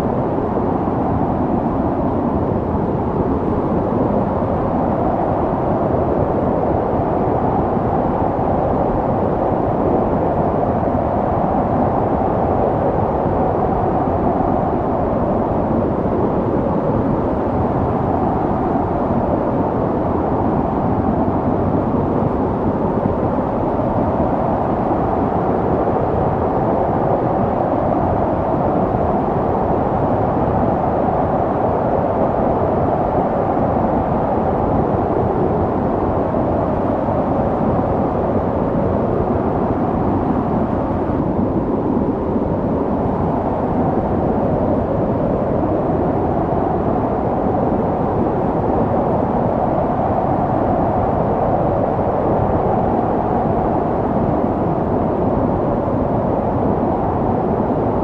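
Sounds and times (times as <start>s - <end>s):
snowstorm wind rushing: 0.0s - 58.0s.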